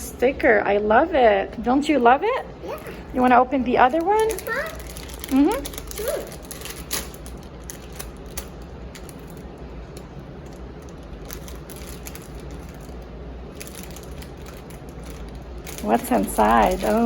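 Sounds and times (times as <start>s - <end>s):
plastic packaging rustling: 2.7s - 17.0s.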